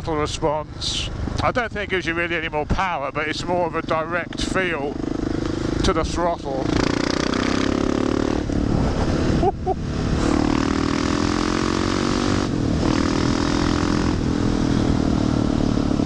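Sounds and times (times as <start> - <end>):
motorcycle engine revving: 3.1 - 16.0.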